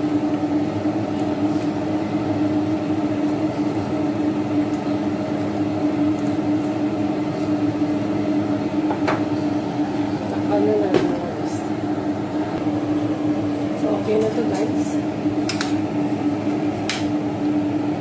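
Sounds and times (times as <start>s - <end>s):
kitchen appliance humming: 0.0s - 18.0s.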